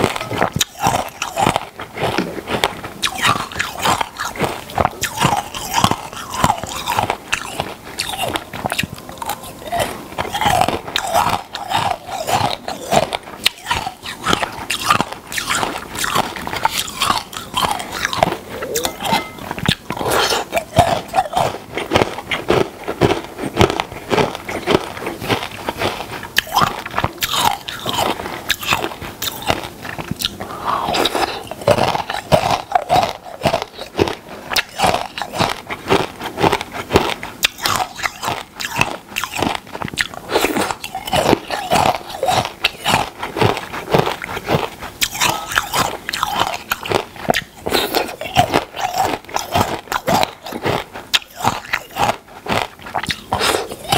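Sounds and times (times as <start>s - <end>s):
crunchy food chewing: 0.0s - 53.9s.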